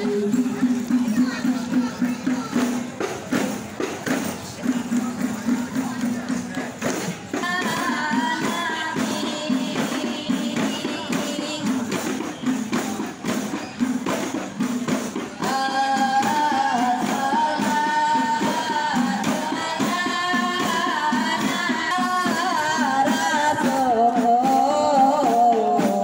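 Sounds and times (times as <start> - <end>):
frame drums beaten in rhythm: 0.0 - 26.0.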